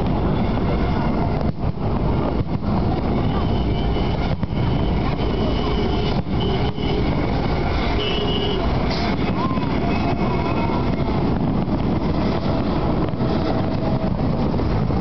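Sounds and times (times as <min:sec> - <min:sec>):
large crowd noise: 0:00.0 - 0:15.0
low rumble: 0:00.0 - 0:15.0.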